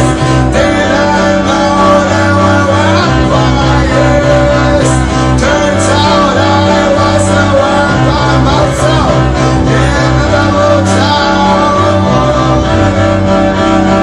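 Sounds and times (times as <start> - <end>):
bowed string instrument: 0.0 - 14.0
low bass notes: 0.0 - 14.0
person singing: 0.0 - 14.0.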